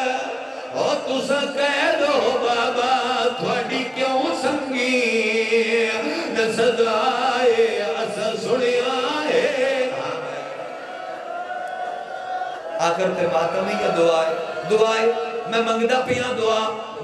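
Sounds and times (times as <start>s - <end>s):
man chanting over loudspeakers: 0.0s - 10.8s, 12.7s - 17.0s.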